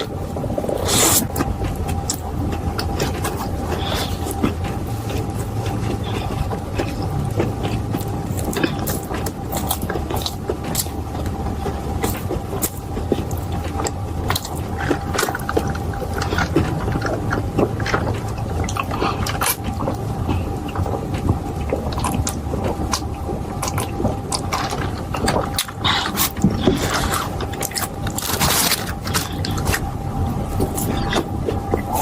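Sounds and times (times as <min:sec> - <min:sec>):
chewing crunchy food: 0:00.0 - 0:32.0
low background hum: 0:00.0 - 0:32.0.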